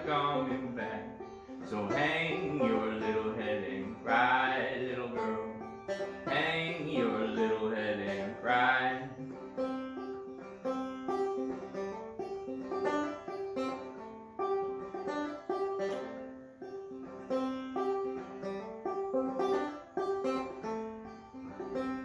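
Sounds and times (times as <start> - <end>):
clawhammer banjo playing: 0.0 - 22.0.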